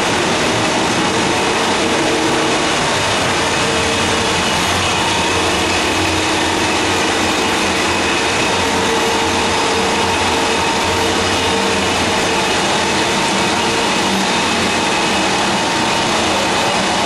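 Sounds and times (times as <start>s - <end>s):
constant hum tones: 0.0s - 17.0s.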